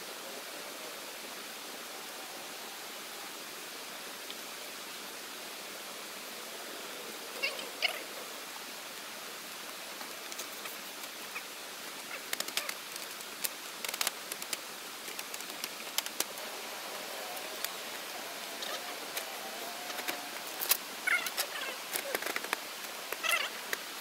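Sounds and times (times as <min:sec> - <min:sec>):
steady rushing background noise: 0:00.0 - 0:24.0.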